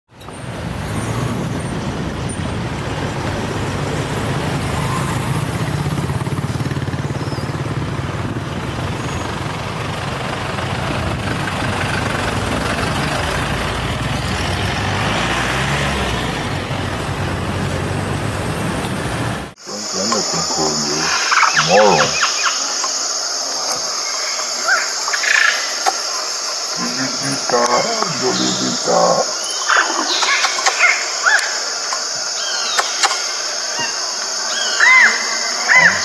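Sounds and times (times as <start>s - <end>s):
road traffic rumble and hiss: 0.1s - 36.0s.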